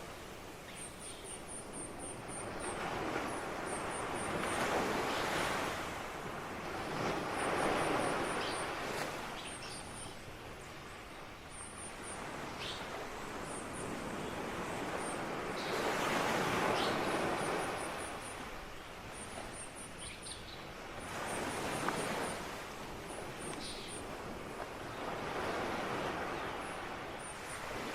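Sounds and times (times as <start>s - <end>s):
ocean surf washing ashore: 0.0s - 20.0s, 20.7s - 27.9s.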